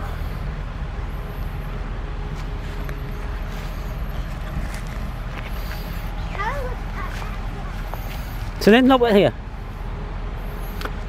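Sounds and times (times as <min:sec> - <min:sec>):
outdoor background rumble and hiss: 0:00.0 - 0:11.0.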